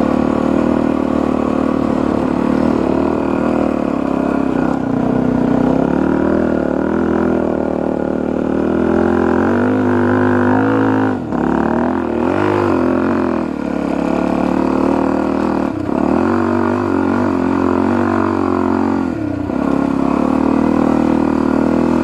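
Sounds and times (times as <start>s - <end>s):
motorcycle engine pulling through sand: 0.0s - 22.0s.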